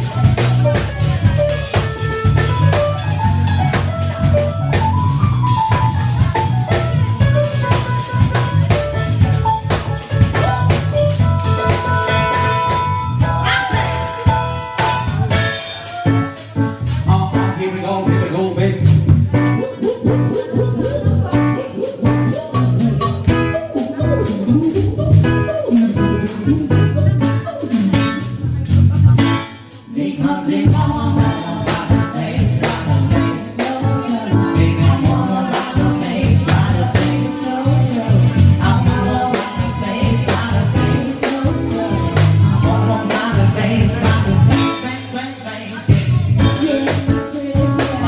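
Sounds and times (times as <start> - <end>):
person singing: 0.0 - 28.3, 29.2 - 48.0
drum kit beat: 0.0 - 48.0
live band playing dance music: 0.0 - 48.0.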